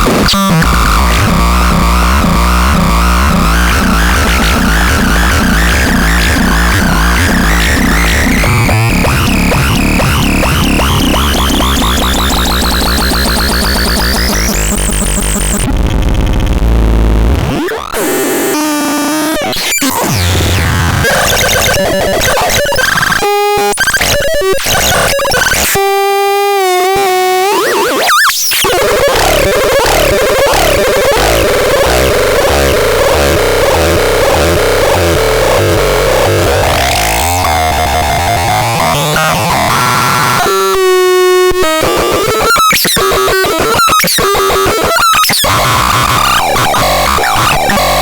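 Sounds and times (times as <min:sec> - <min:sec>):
buzzy synthesizer tones: 0:00.0 - 0:48.0
harsh synthesizer noise: 0:00.0 - 0:48.0.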